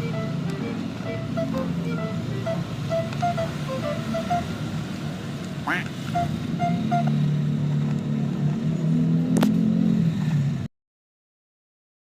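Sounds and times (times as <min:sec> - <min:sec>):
engine humming: 0:00.0 - 0:10.6.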